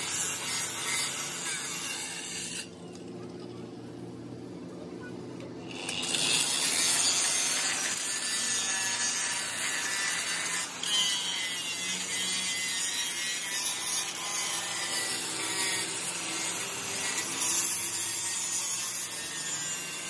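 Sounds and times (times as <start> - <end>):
angle grinder grinding steel: 0.0 - 2.8, 5.6 - 20.0.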